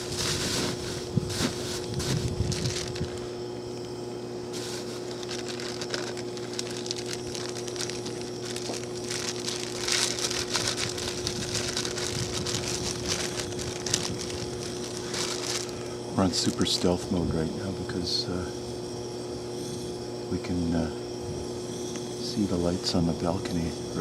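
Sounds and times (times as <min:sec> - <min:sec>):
transformer electrical hum: 0:00.0 - 0:24.0.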